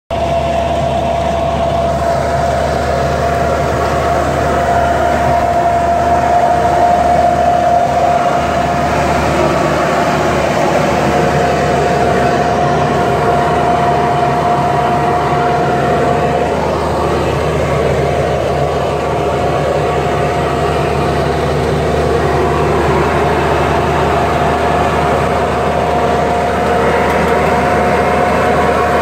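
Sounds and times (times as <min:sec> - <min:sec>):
steady high whine: 0:00.1 - 0:29.0
tractor running under load: 0:00.1 - 0:29.0.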